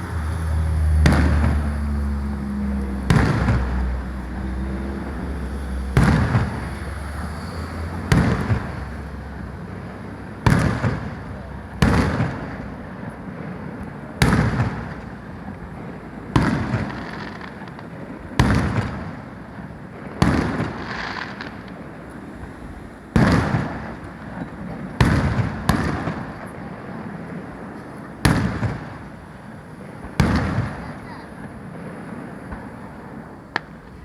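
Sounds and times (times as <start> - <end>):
firework bangs: 0.0 - 34.0
rolling rumble: 0.0 - 34.0.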